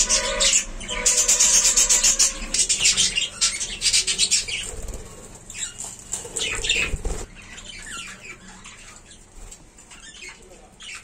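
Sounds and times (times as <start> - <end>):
budgerigars chirping: 0.0 - 11.0.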